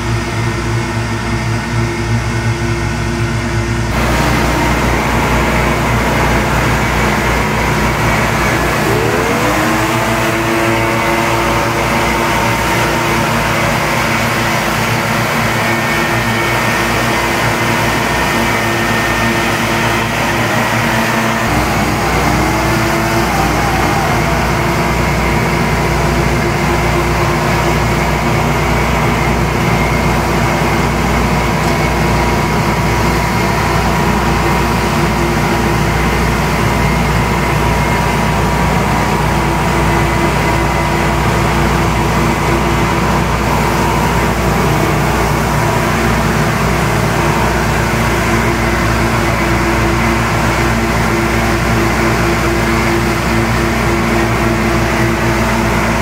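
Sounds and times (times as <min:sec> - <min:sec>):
deeper engine drone: 0:00.0 - 0:56.0
leaf blowers droning: 0:03.9 - 0:56.0.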